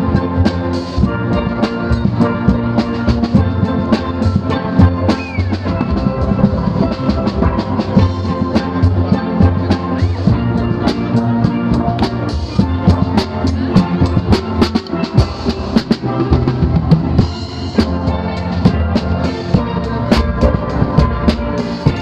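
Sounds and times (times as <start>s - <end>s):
drum kit beat: 0.0s - 22.0s
steelpan melody and chords: 0.0s - 22.0s.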